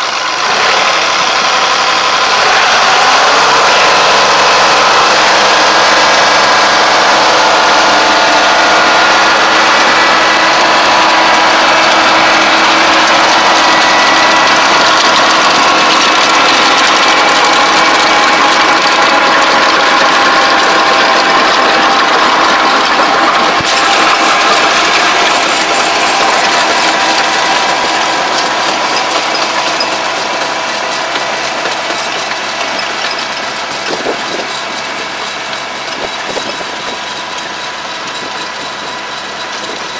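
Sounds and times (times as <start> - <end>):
rotary tiller turning soil: 0.0 - 39.9
tractor diesel engine running: 0.0 - 39.9.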